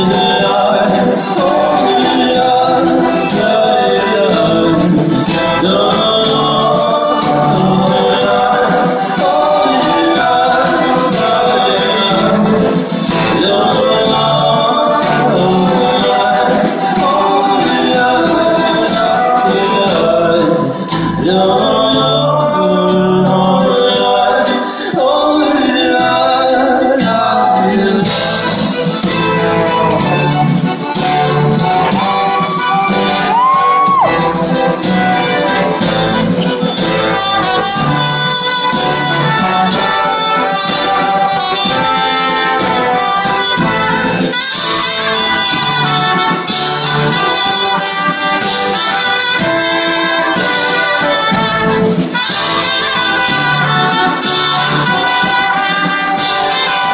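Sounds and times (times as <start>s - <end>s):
live band with brass horns: 0.0s - 56.9s
person singing: 0.0s - 56.9s.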